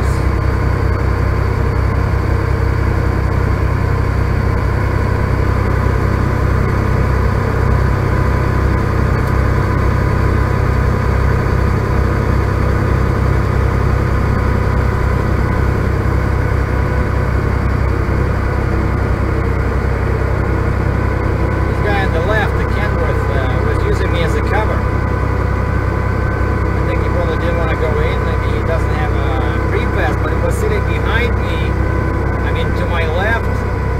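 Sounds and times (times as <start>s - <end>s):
truck engine and tyres droning: 0.0s - 33.9s.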